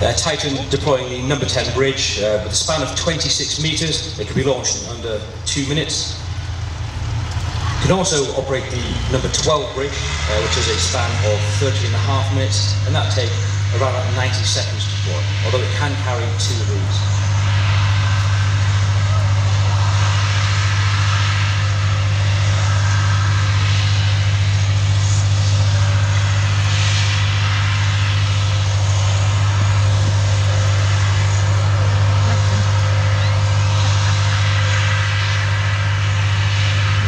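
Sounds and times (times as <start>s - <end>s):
diesel engine deep drone: 0.0s - 37.0s.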